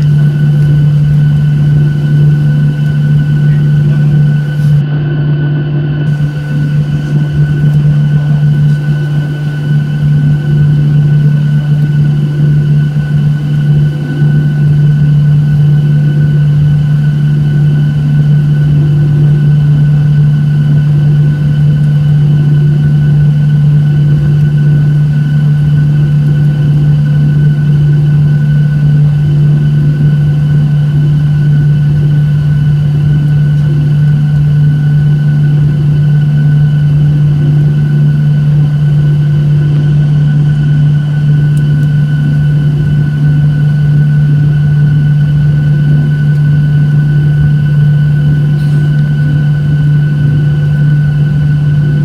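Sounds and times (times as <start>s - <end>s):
high whine: 0.0s - 52.0s
jet engine drone: 0.0s - 52.0s.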